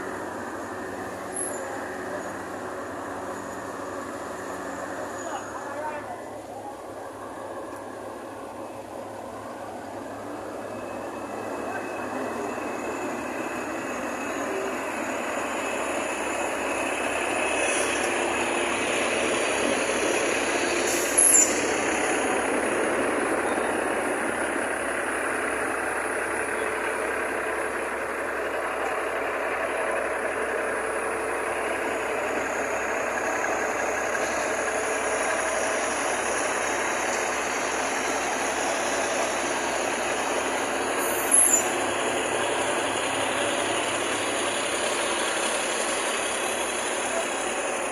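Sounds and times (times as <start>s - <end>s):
heavy trucks and paving machines: 0.0s - 47.9s.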